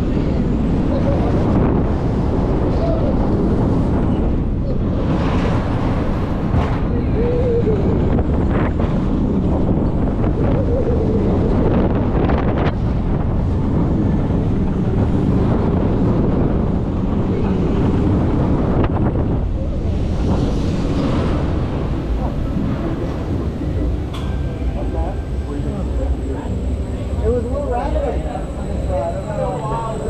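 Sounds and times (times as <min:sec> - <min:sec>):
roller coaster rumbling on track: 0:00.0 - 0:30.0
wind buffeting microphone: 0:00.0 - 0:30.0.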